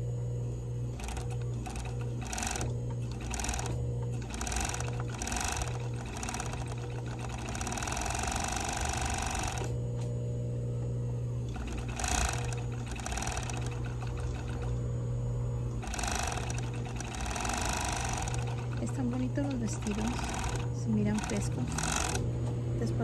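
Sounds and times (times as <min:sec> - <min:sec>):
overlock sewing machine running: 0:00.8 - 0:09.8, 0:11.4 - 0:14.9, 0:15.6 - 0:23.0.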